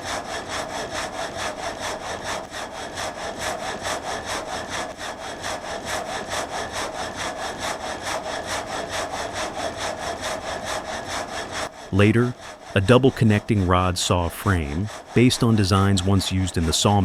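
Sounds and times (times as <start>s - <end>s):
saw blade rasping through log: 0.0s - 17.0s.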